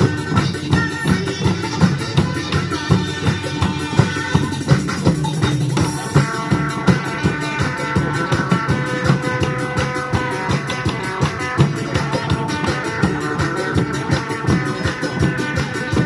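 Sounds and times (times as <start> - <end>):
upbeat dance music: 0.0 - 16.0.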